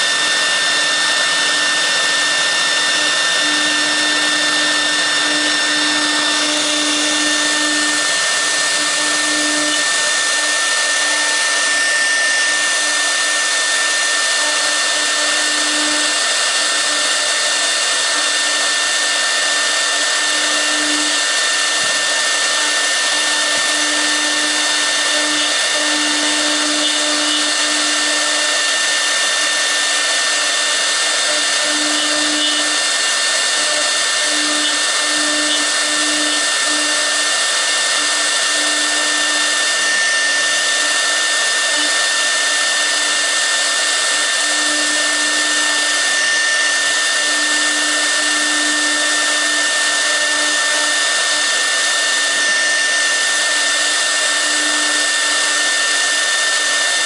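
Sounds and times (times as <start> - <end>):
spindle fan rushing and whining: 0.0 - 57.0.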